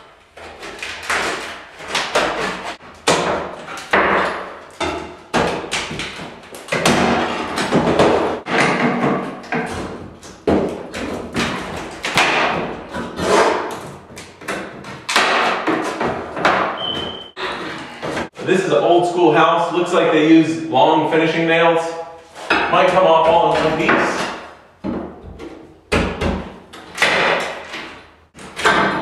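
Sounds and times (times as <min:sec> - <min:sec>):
pry bar knocking and scraping wood: 0:00.4 - 0:17.0, 0:22.4 - 0:29.0.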